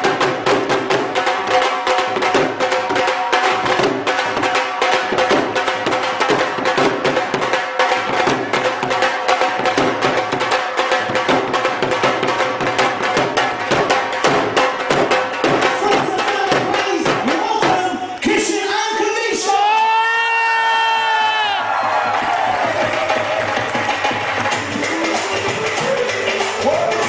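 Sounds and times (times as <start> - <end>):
dhol drums fast rhythm: 0.0 - 27.0.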